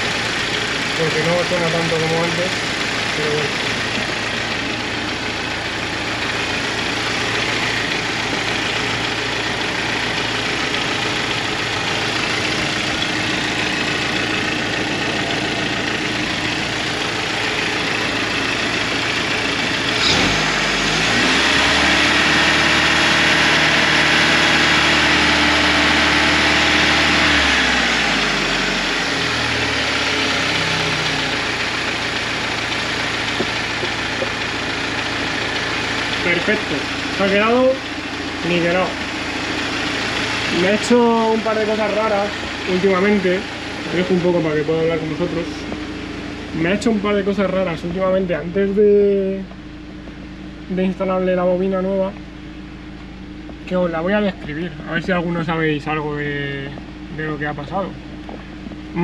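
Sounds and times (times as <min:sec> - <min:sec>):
car engine idling: 0:00.0 - 0:59.0
rising hum: 0:02.4 - 0:59.0.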